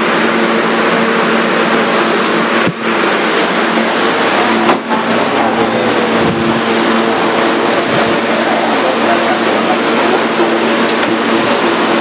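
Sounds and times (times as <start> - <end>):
subway car wheel and rail noise: 0.0 - 12.0
traction motor tones: 1.2 - 12.0.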